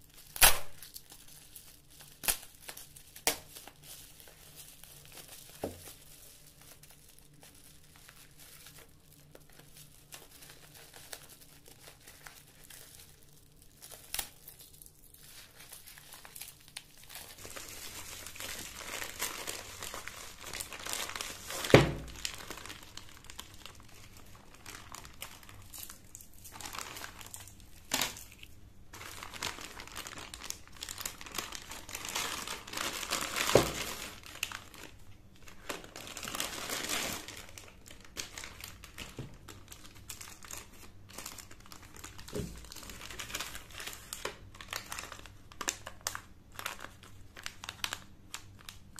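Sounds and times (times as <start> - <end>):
plastic wrap crinkling: 0.0 - 48.9.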